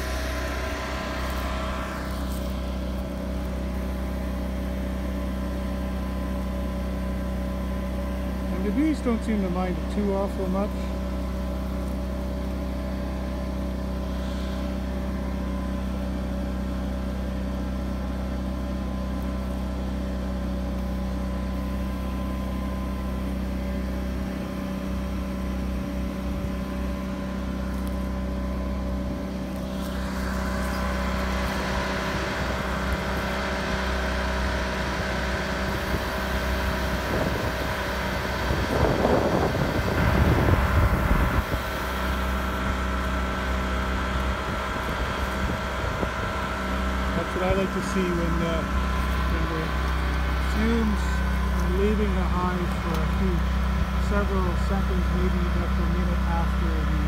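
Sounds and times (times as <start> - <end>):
generator and compressor hum: 0.0 - 57.0.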